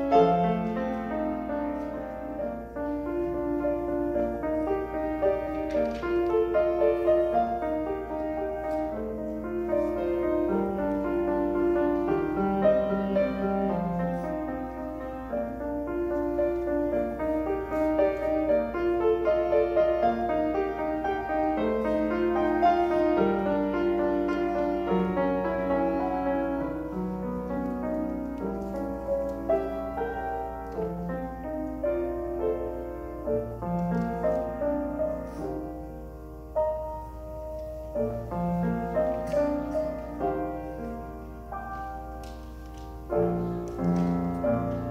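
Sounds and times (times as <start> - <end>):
solo classical piano: 0.0 - 44.9.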